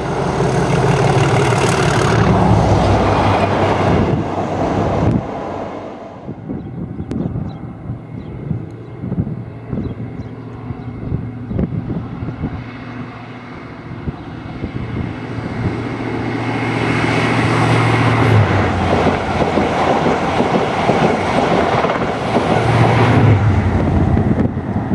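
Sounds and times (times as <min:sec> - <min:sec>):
diesel train engine: 0:00.0 - 0:24.9
wheel and rail rush: 0:00.0 - 0:24.9.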